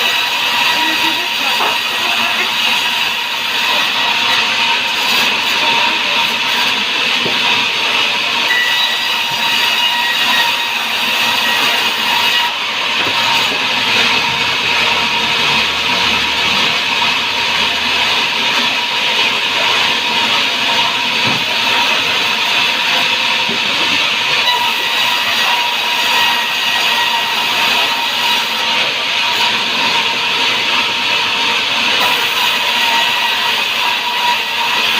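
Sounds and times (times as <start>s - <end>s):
saw cutting wood: 0.0s - 34.9s.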